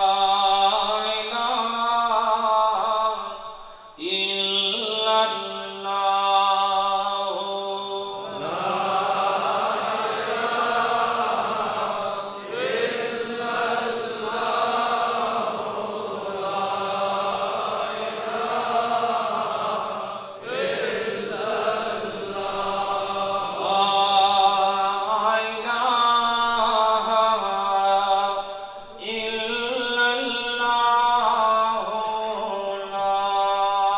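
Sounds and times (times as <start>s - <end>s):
male voices chanting: 4.0s - 33.9s.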